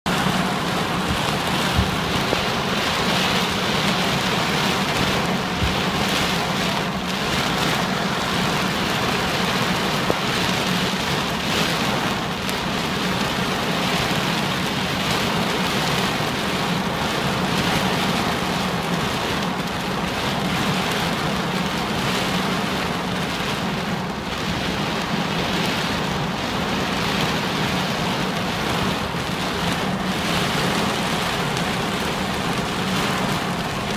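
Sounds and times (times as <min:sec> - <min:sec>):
heavy rain on car roof: 0:00.0 - 0:33.9.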